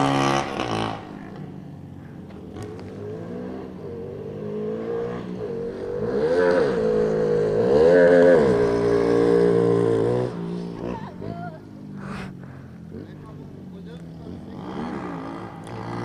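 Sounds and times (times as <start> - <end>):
small motorbike engine revving: 0.0 - 16.0.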